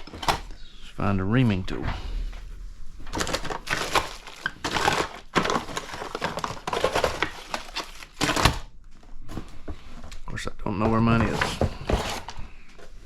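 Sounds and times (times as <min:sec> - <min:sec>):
hands rummaging through tools: 0:00.0 - 0:00.8, 0:01.4 - 0:13.0.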